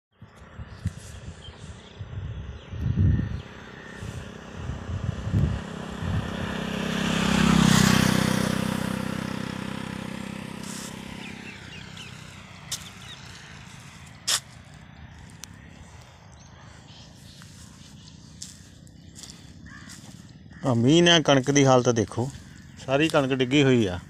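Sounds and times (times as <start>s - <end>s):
vehicle engine passing by: 2.9s - 24.0s.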